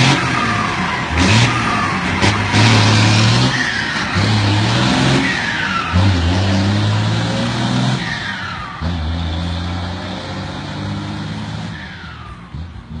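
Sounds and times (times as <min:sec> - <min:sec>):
truck diesel engine pulling away: 0:00.0 - 0:13.0.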